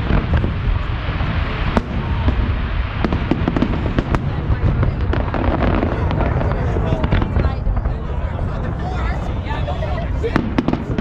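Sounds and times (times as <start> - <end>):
fireworks rumbling and cracking: 0.0 - 11.0.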